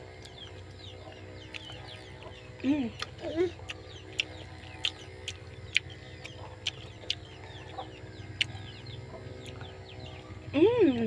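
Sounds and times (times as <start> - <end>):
chickens clucking: 0.0 - 11.0
steady low hum: 0.0 - 11.0.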